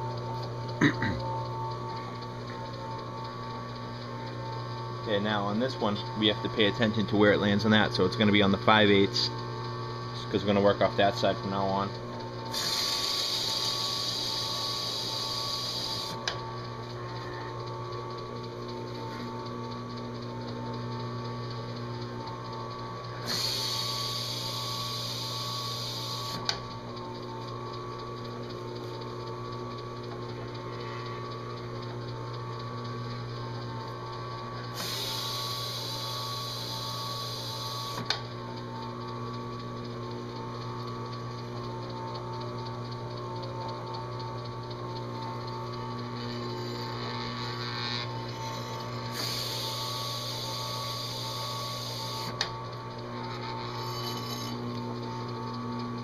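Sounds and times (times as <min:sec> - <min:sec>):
drill press motor running: 0:00.0 - 0:56.0.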